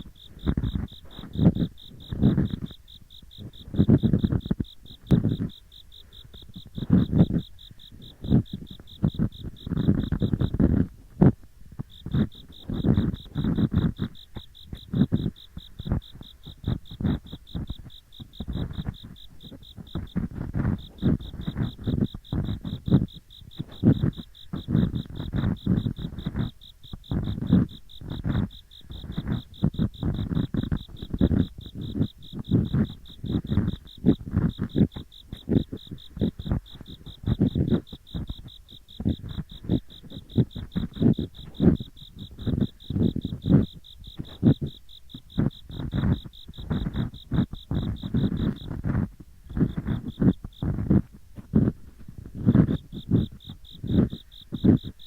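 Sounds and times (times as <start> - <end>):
ear pick scraping: 0.0 - 55.0
insect chirping: 0.0 - 55.0.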